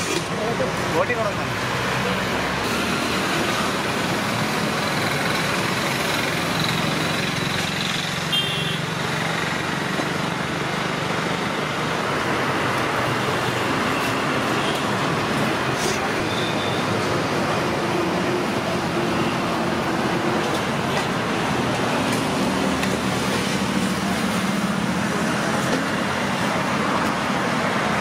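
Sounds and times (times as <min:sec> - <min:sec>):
roadside traffic noise: 0:00.0 - 0:28.0.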